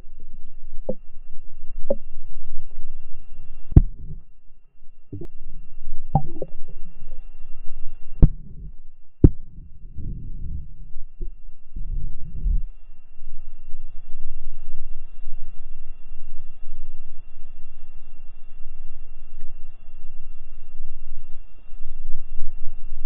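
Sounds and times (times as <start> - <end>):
underwater water rumble: 0.0 - 23.0.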